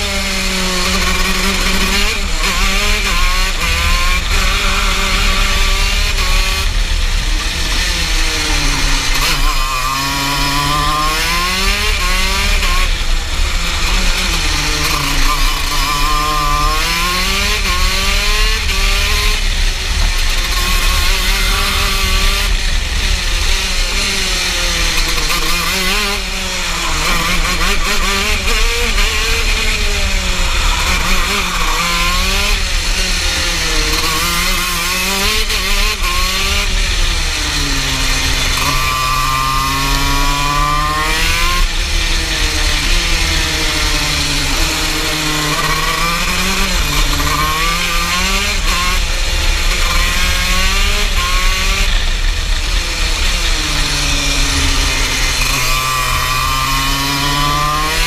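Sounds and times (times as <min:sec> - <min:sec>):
two-stroke kart engine racing: 0:00.0 - 0:58.0.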